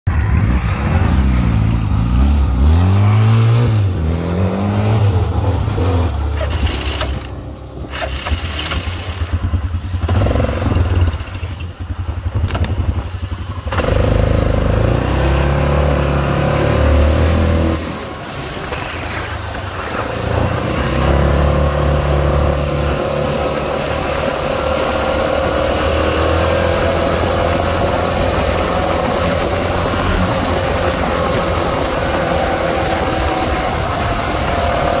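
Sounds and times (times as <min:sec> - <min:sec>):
quad bike engine revving: 0:00.1 - 0:35.0.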